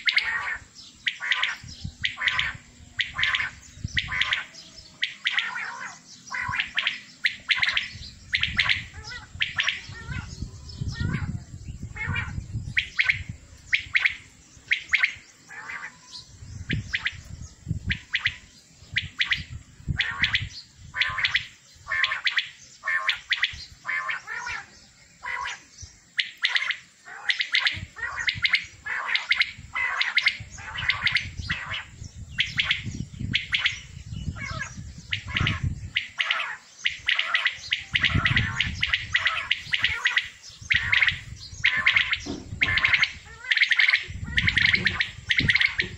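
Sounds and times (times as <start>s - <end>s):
quails calling: 0.0s - 45.9s.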